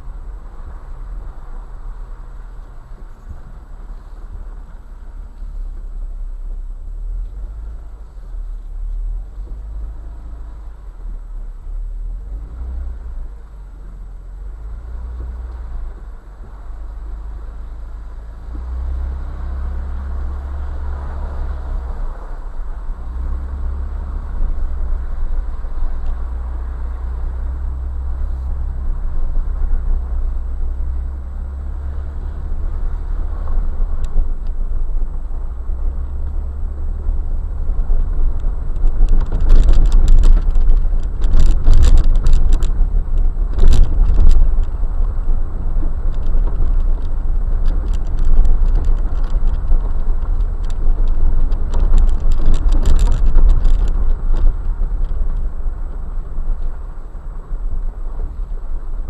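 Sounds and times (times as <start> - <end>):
engine and tyres rumbling: 0.0 - 59.0
vehicle rattling over rough ground: 0.0 - 59.0.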